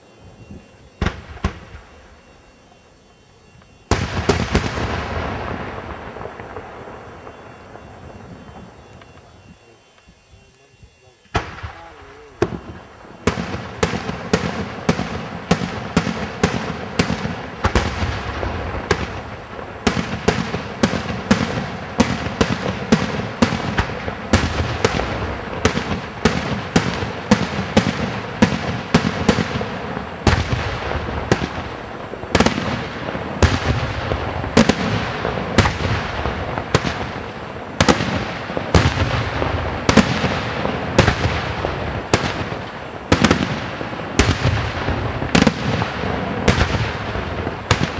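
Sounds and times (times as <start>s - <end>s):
echoes of bangs: 3.9s - 9.2s, 11.3s - 47.9s.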